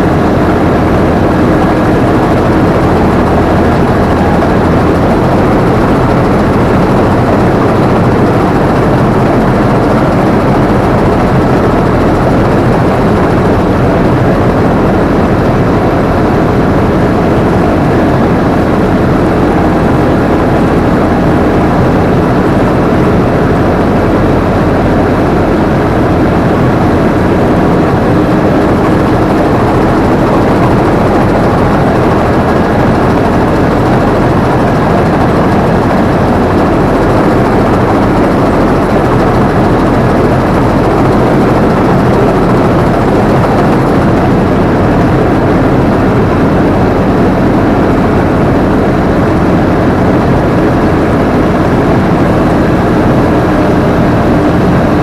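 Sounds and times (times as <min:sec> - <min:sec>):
combine harvester machinery drone: 0:00.0 - 0:55.0.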